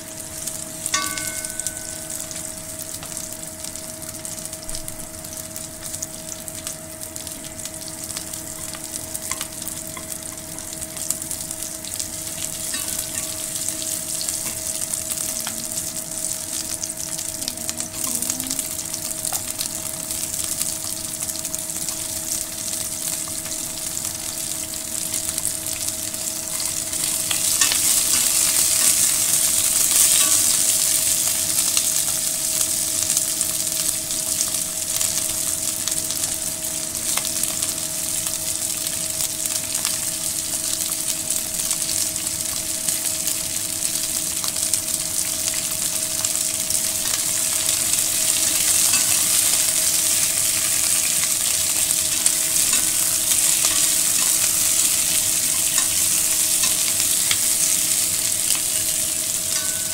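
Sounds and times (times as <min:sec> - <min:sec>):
vegetables sizzling in a pot: 0:00.0 - 0:59.9.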